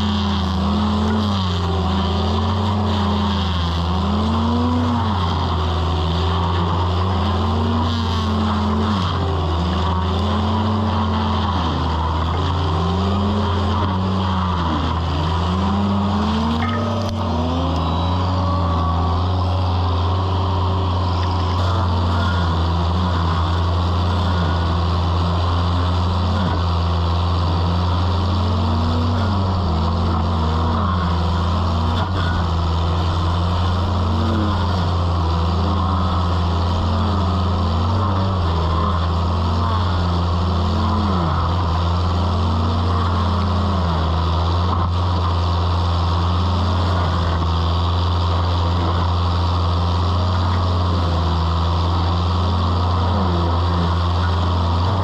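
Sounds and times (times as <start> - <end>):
low engine hum: 0.0 - 55.0
stump grinder whine: 0.0 - 55.0.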